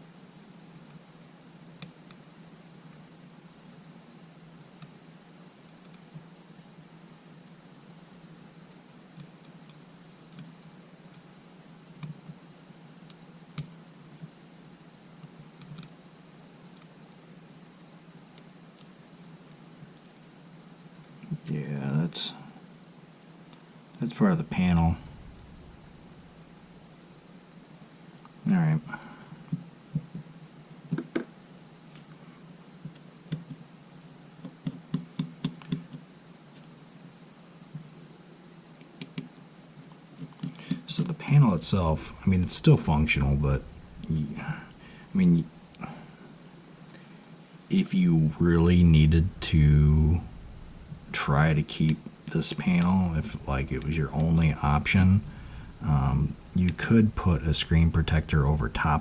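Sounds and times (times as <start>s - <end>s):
steady low hum: 0.0s - 34.4s, 39.5s - 59.0s.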